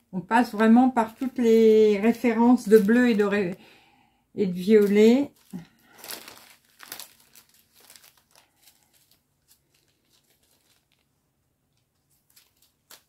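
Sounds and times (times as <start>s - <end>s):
plastic bags crinkling: 0.5s - 3.6s, 4.6s - 13.0s.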